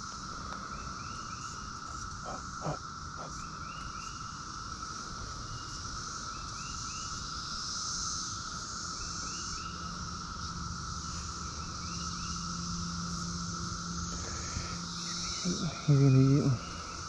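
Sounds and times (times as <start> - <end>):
cicada chorus drone: 0.0 - 17.0.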